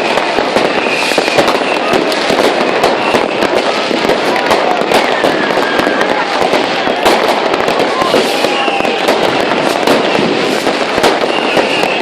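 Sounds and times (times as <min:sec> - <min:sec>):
falling firework whistles: 0:00.0 - 0:04.2, 0:04.8 - 0:12.0
fireworks and firecrackers banging: 0:00.0 - 0:12.0.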